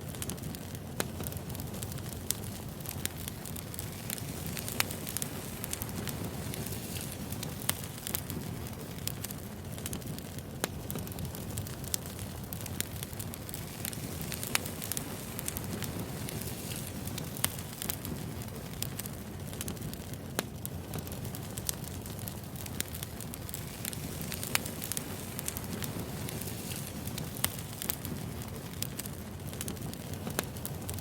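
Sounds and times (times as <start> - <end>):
firewood crackling: 0.0 - 31.0
low fire rumble: 0.0 - 31.0.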